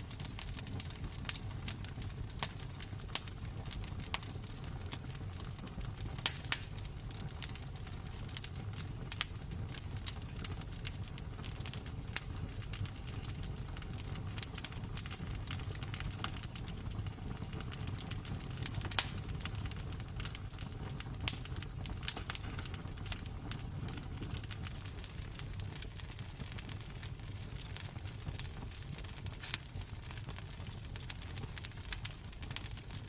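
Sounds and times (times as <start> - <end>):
low fire rumble: 0.0 - 33.0
wood fire crackling: 0.0 - 33.0.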